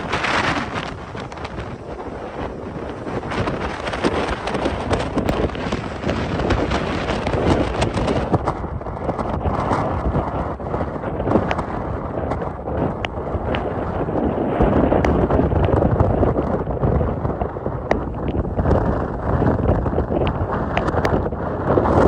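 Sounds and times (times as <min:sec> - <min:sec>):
hurricane wind: 0:00.0 - 0:22.0
waves breaking against houses: 0:00.0 - 0:22.0
wind buffeting microphone: 0:00.0 - 0:22.0.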